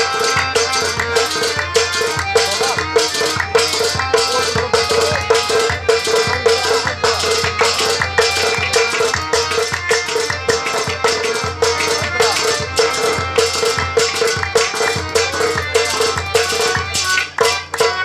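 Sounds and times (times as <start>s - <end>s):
fast hand-drum rhythm: 0.0s - 18.0s
harmonium melody: 0.0s - 18.0s.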